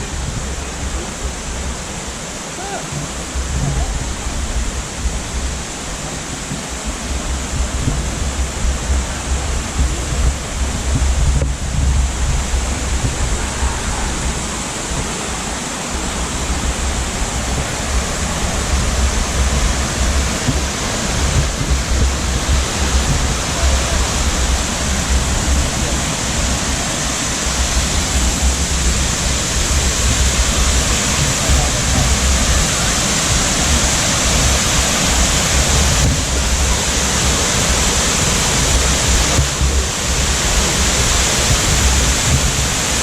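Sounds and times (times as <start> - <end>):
waterfall rushing: 0.0 - 43.0
low rumble: 3.0 - 43.0.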